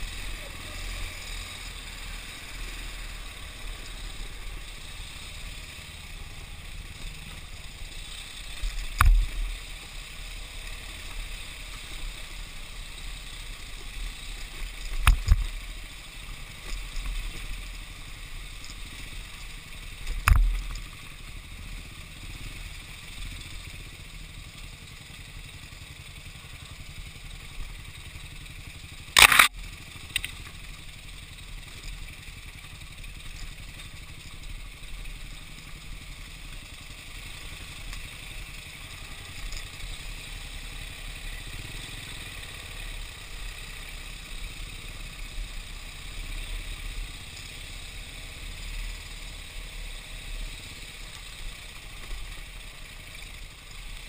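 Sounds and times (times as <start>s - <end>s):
dirt bike engine: 0.0s - 54.0s
rattle: 6.6s - 21.3s, 22.4s - 54.0s.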